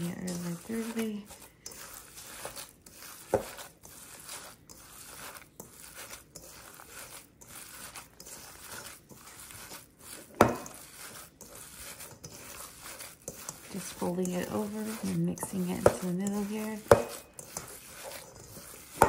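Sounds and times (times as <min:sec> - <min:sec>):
hands squelching raw meat: 0:00.0 - 0:19.0.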